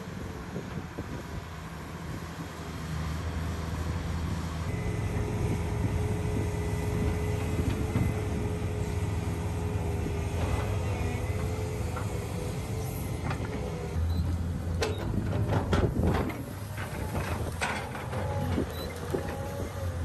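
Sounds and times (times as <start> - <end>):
low mechanical drone: 0.0 - 20.0
motor whine: 0.0 - 20.0.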